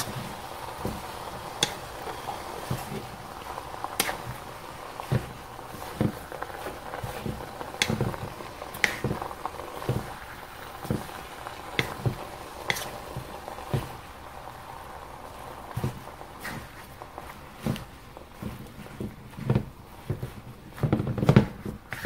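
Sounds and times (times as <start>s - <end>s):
food sizzling in wok: 0.0s - 20.8s
spatula scraping wok: 0.0s - 22.0s.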